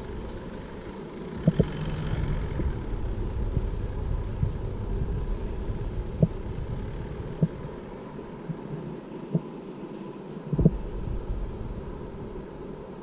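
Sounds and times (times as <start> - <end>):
engine low rumble: 0.0 - 8.2, 10.5 - 12.9.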